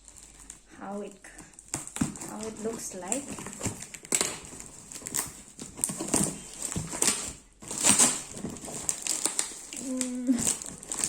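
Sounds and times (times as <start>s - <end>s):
packaging rustling and crackling: 0.0s - 11.0s.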